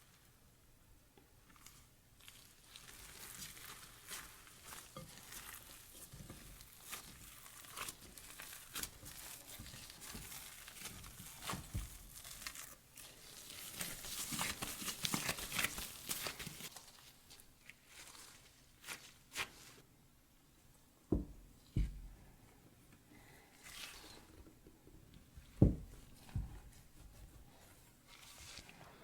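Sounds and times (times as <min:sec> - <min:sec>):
crinkling rustling handling: 0:01.5 - 0:19.9, 0:23.4 - 0:29.0.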